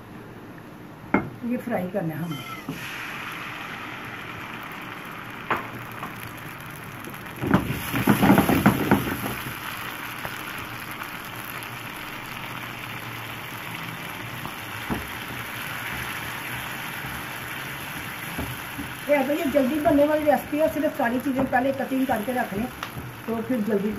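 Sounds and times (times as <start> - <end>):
tomatoes sizzling in hot oil: 2.3 - 23.9.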